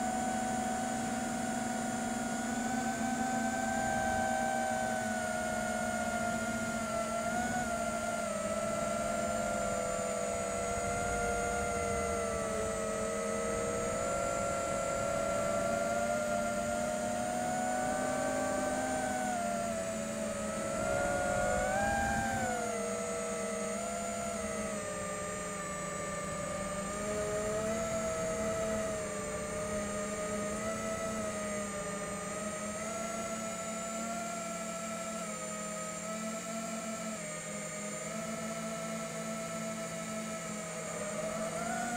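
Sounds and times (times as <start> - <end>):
drone motors and propellers whining: 0.0 - 41.9.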